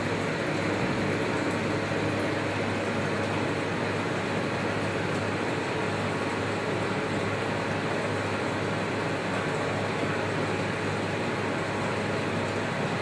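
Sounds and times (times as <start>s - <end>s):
motor and fan humming: 0.0s - 13.0s.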